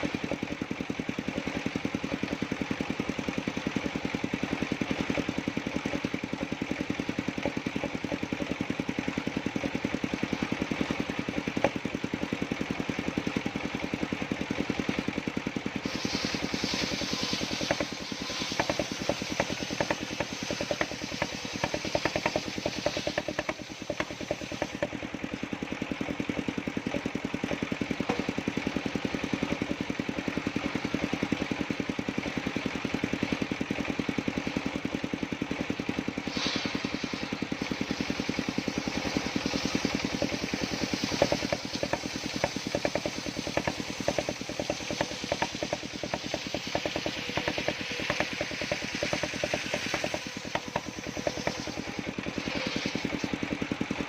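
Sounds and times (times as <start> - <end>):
sawmill engine running: 0.0 - 54.0
saw blade cutting wood: 3.0 - 12.2, 12.9 - 31.4, 36.2 - 54.0.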